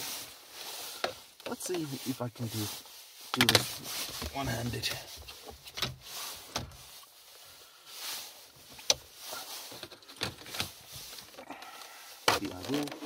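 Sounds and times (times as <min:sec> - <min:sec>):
soft rustling and scraping: 0:00.0 - 0:13.0.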